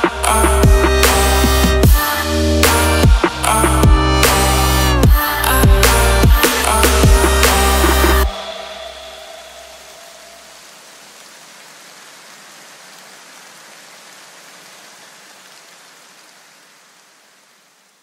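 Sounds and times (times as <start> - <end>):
steady hiss like rain: 0.0 - 18.0.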